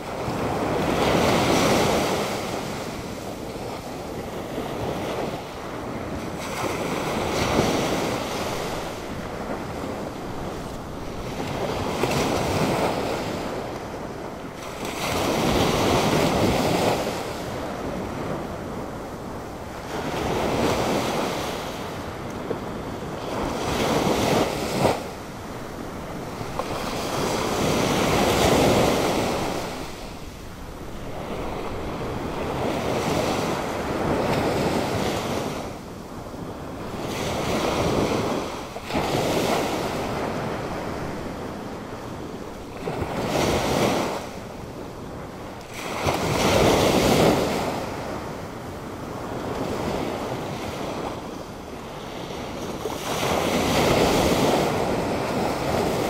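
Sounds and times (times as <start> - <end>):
waves breaking and washing up: 0.0 - 56.0
wind on microphone: 0.0 - 56.0.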